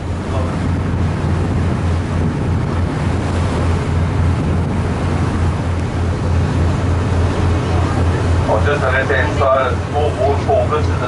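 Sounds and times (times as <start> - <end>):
low uneven rumble: 0.0 - 11.0
water rushing: 0.0 - 11.0
wind buffeting microphone: 0.0 - 11.0.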